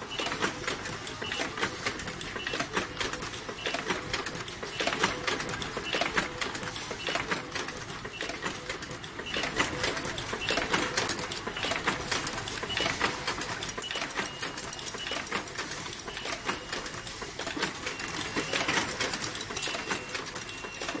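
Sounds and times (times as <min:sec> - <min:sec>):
machine clicking and clattering: 0:00.0 - 0:21.0.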